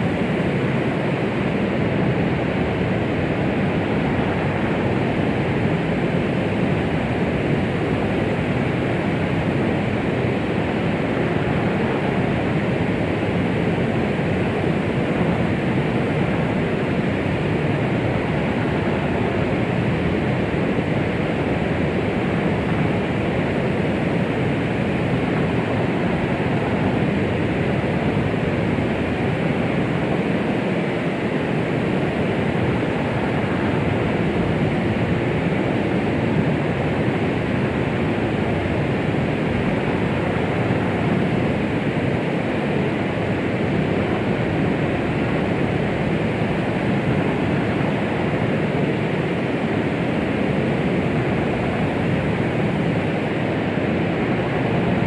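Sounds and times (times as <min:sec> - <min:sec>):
steady white noise: 0:00.0 - 0:55.0.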